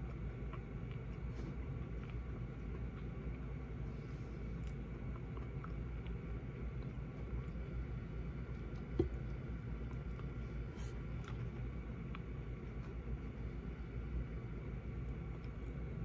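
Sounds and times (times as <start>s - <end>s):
faint chewing: 0.0s - 16.0s
steady low rumble: 0.0s - 16.0s.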